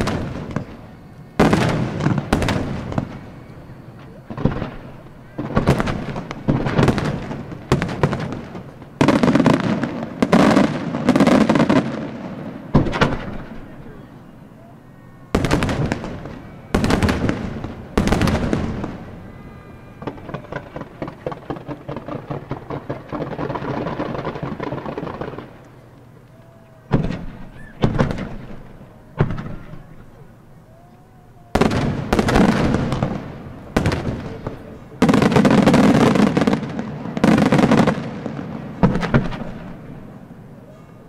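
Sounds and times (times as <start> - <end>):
string of smaller firework shots: 0.0 - 13.9, 15.3 - 19.3, 20.0 - 25.8, 26.9 - 30.2, 31.5 - 40.4
fireworks shells booming: 0.0 - 30.7, 31.4 - 41.0.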